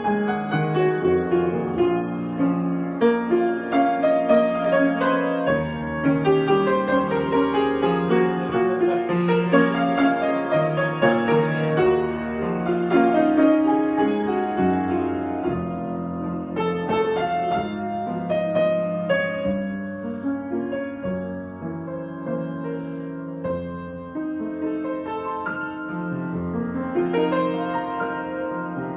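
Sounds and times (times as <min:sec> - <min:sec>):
solo piano: 0:00.0 - 0:28.9.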